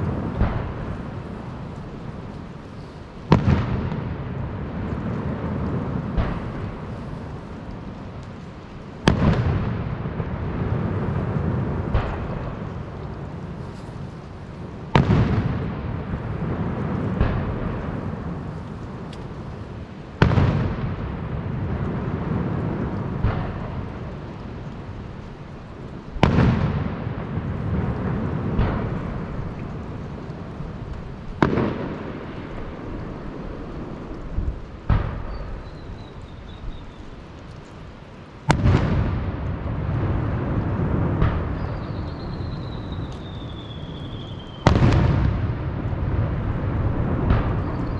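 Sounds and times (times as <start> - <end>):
firework bangs with rolling rumble: 0.0 - 47.9
small firework pops: 0.0 - 47.9.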